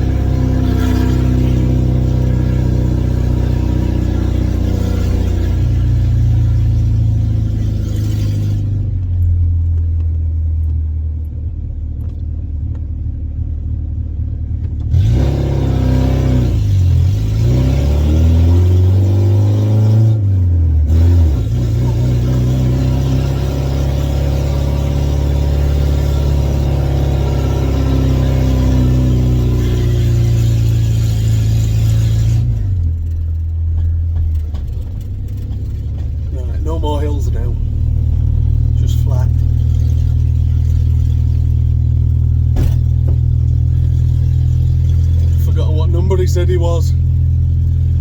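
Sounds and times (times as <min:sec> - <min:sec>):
loud car engine revving: 0:00.0 - 0:09.7, 0:14.6 - 0:48.0.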